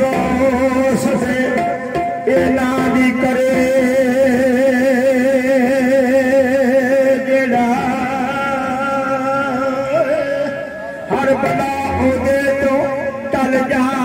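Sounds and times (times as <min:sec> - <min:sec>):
man singing with vibrato: 0:00.0 - 0:14.0.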